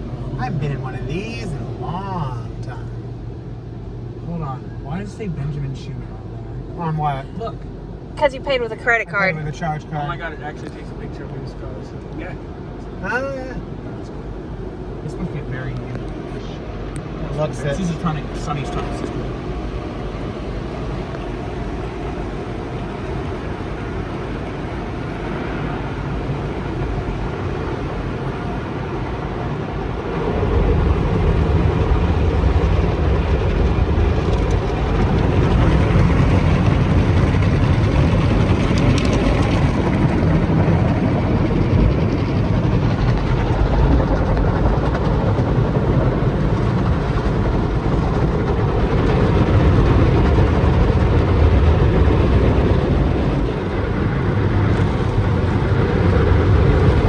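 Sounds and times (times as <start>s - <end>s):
car wash rushing noise: 0.0s - 57.0s
low rumble: 0.0s - 57.0s.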